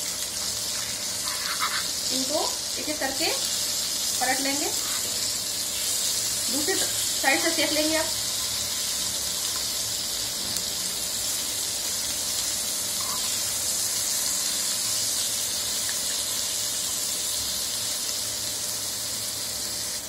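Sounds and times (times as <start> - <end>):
fish sizzling in oil: 0.0 - 20.0.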